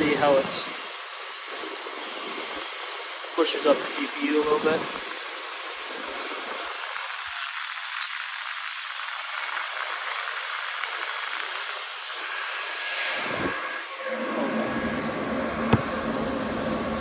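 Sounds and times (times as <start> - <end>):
cooling fans rushing: 0.0 - 17.0.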